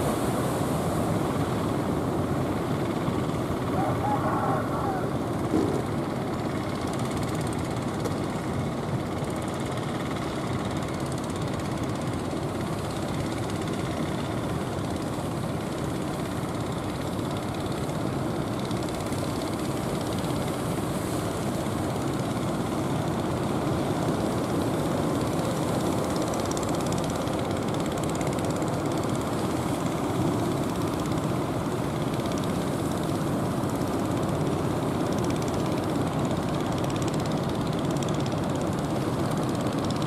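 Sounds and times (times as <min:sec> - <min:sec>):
fishing boat engines droning: 0:00.0 - 0:40.0.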